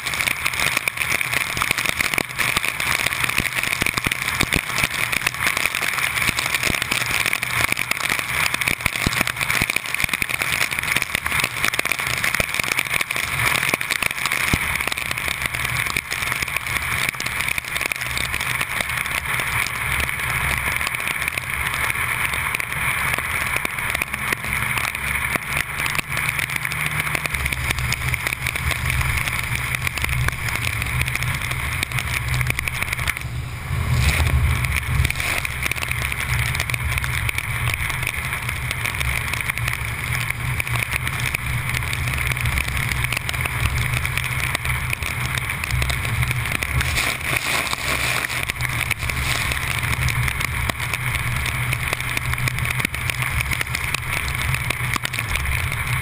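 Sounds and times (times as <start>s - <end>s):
engine hum: 0.0s - 56.0s
heavy rain on vehicle: 0.0s - 56.0s.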